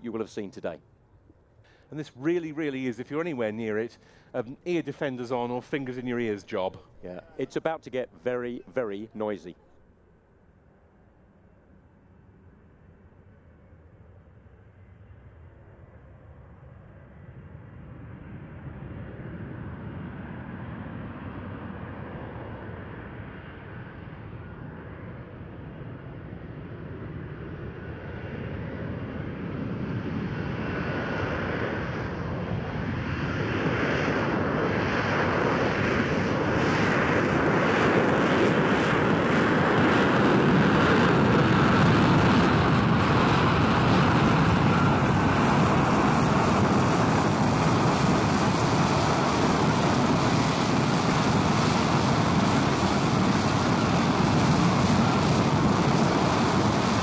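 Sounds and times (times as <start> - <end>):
jet engine roar with whine: 1.4 - 57.0.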